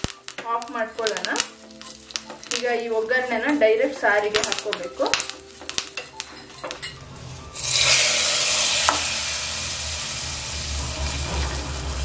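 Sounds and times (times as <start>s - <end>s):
loud sizzle of hot oil: 0.0s - 12.0s.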